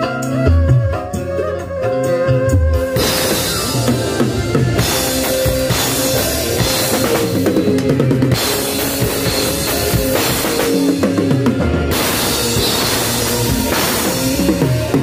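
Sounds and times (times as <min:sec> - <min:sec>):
loud instrumental music: 0:00.0 - 0:15.0.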